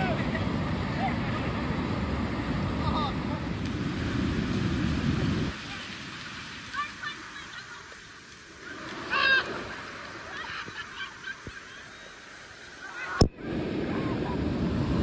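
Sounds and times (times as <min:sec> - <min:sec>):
surf washing on beach: 0:00.0 - 0:15.0.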